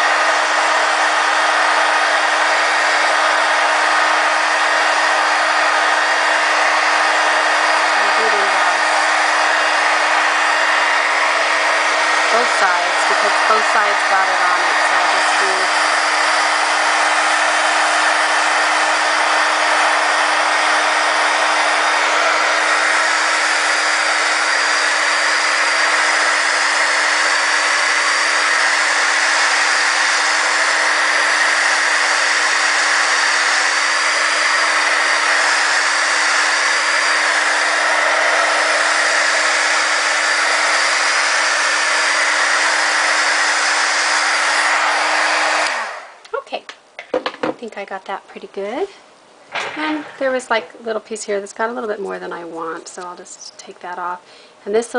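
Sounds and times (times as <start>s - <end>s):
heat gun blowing air: 0.0s - 46.2s
heat gun hum: 0.0s - 46.3s.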